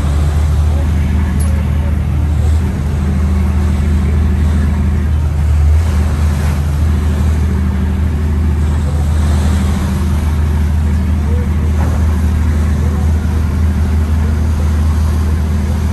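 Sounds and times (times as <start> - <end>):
large engine humming: 0.0 - 15.9.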